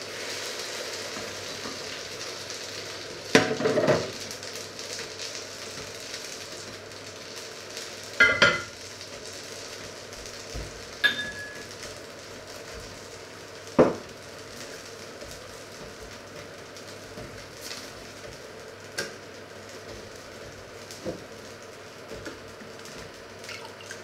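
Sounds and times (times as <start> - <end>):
broth simmering and sizzling: 0.0 - 24.0.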